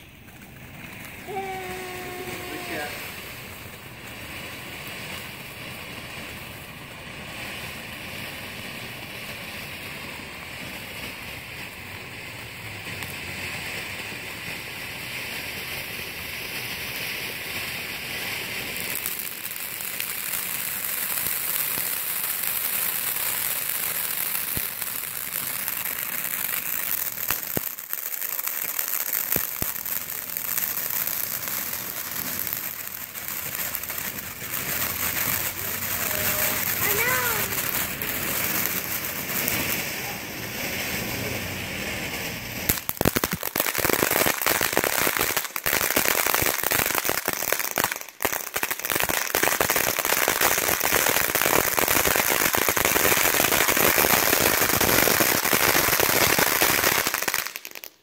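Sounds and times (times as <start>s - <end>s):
firework pops: 0.0s - 11.8s, 12.9s - 41.3s, 42.1s - 58.0s
firework fountain hissing and crackling: 0.0s - 58.0s.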